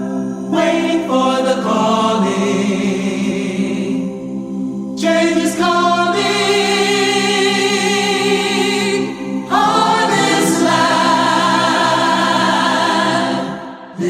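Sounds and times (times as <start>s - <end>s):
choir-like wordless vocals: 0.0s - 14.0s.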